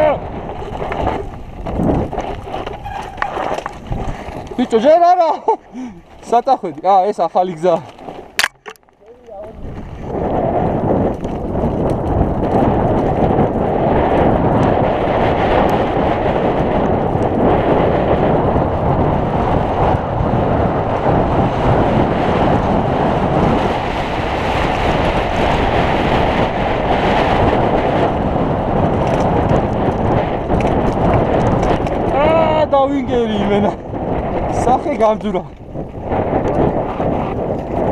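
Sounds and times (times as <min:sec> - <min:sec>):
bike tyres and frame rattling: 0:00.0 - 0:37.9
wind rush on microphone: 0:00.0 - 0:37.9.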